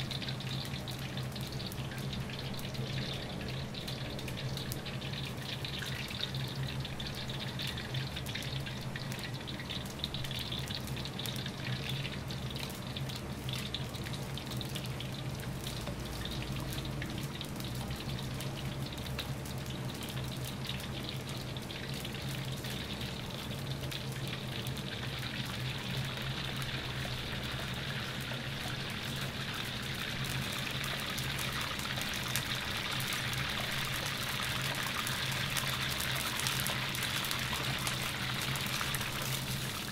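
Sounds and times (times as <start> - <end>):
oil sizzling and crackling: 0.0 - 39.9.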